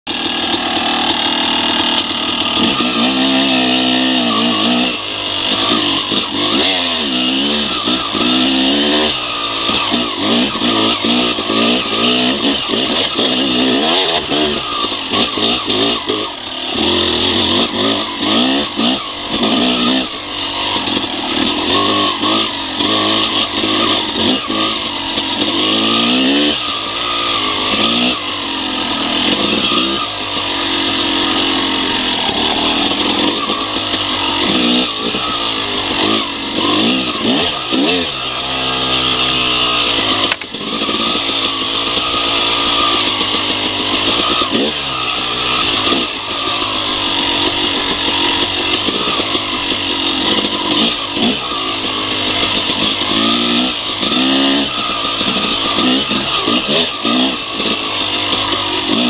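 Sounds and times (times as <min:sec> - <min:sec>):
dirt bike engine revving: 0:00.1 - 0:59.0.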